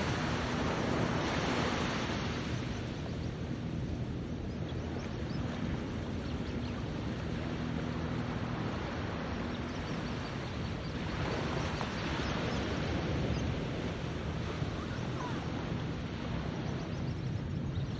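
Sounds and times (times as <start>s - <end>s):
ocean surf: 0.0s - 4.3s, 5.4s - 16.7s
wind at the shore: 0.0s - 17.9s.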